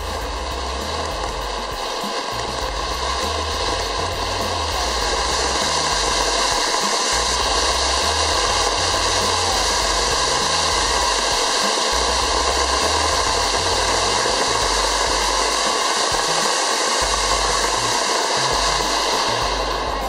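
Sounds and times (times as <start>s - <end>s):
firework fountain hissing: 0.0s - 20.0s.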